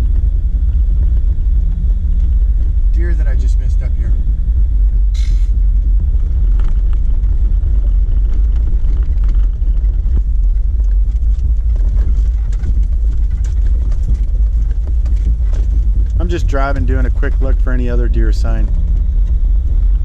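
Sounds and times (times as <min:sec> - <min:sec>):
engine and tyres rumbling: 0:00.0 - 0:20.0.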